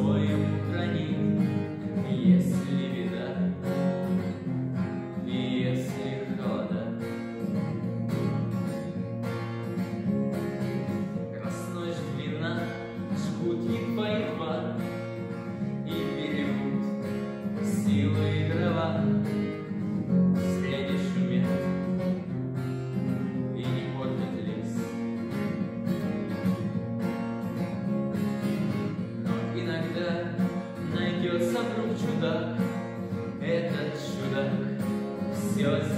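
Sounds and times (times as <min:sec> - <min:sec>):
acoustic guitar strumming: 0:00.0 - 0:35.9.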